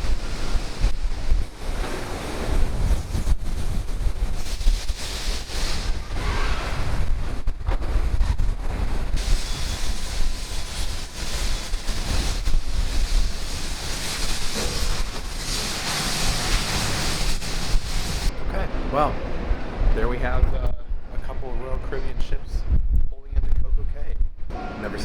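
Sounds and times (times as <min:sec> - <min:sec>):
wind buffeting microphone: 0:00.0 - 0:24.6
rush of wind and sea: 0:00.0 - 0:24.8.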